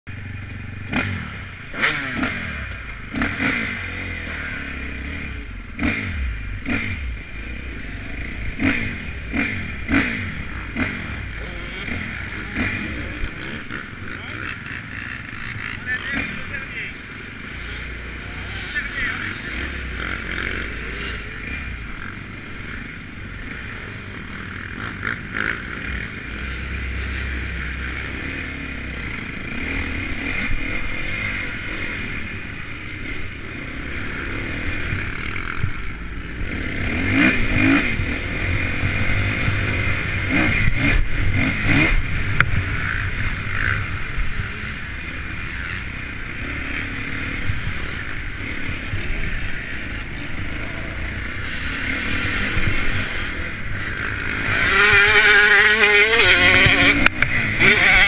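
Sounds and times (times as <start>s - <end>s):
motorbike engine revving: 0.1s - 58.0s.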